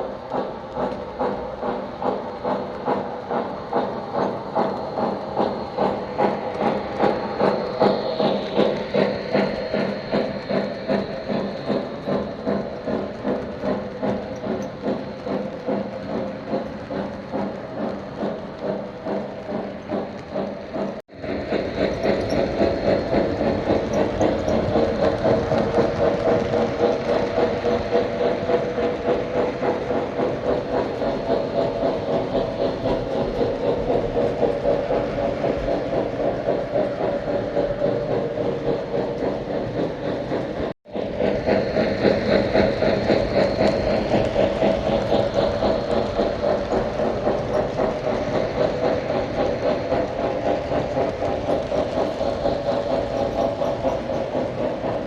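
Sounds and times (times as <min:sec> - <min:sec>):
toy train rumbling on track: 0:00.0 - 0:55.0.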